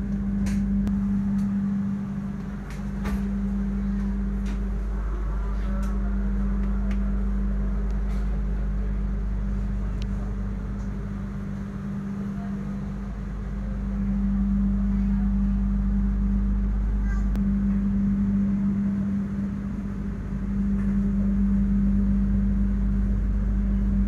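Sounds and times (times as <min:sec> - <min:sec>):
train interior mechanical hum: 0:00.0 - 0:24.0.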